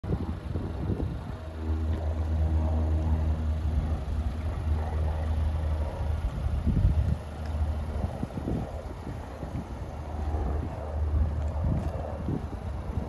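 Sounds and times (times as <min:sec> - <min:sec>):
wind rumbling on microphone: 0:00.0 - 0:13.0
car engine idling: 0:00.1 - 0:13.0.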